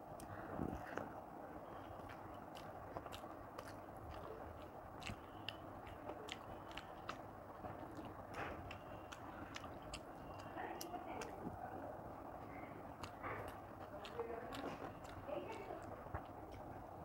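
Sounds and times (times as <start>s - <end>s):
fingers mixing rice on a plate: 0.0s - 17.0s
chewing with wet mouth clicks: 0.1s - 17.0s.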